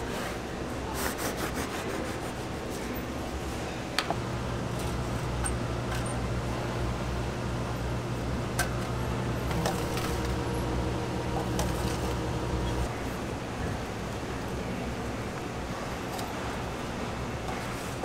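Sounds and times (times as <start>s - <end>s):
toaster electrical hum: 2.4s - 18.0s.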